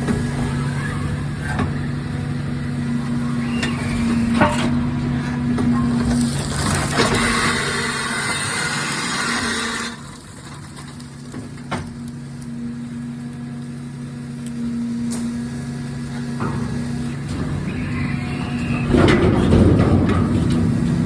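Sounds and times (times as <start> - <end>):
truck engine humming: 0.0 - 21.0.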